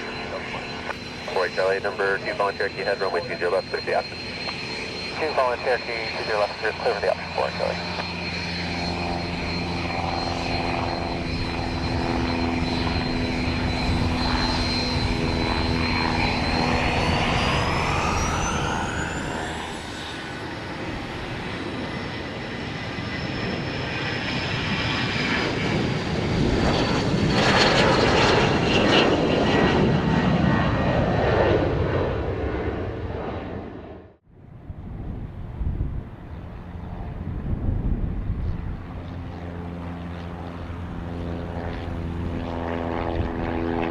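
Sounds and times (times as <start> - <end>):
airplane engine whine: 0.0 - 43.9.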